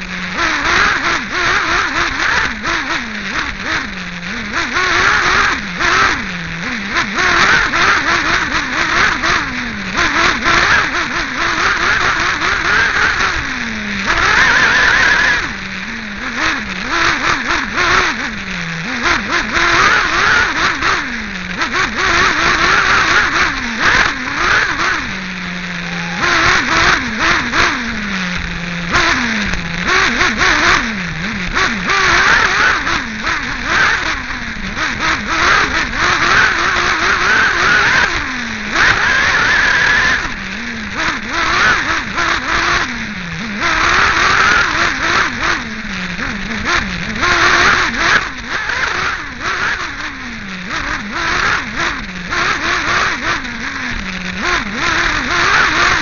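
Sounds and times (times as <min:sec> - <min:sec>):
rc buggy engine revving: 0:00.0 - 0:56.0.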